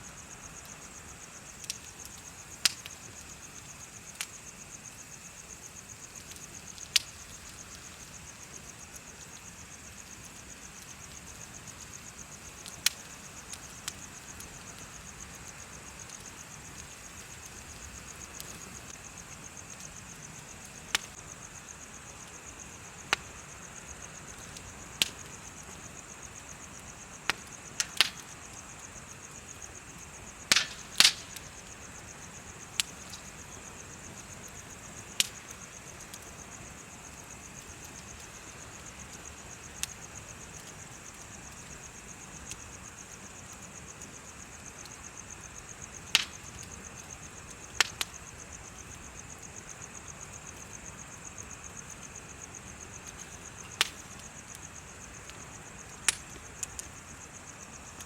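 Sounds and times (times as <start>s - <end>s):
insects chirping: 0.0s - 58.0s
bonfire crackling and popping: 0.1s - 58.0s.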